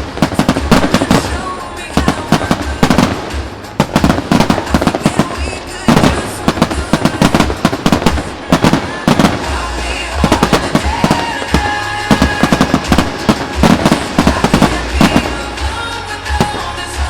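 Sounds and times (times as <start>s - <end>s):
fireworks exploding: 0.0s - 17.0s
music playing: 0.0s - 17.0s.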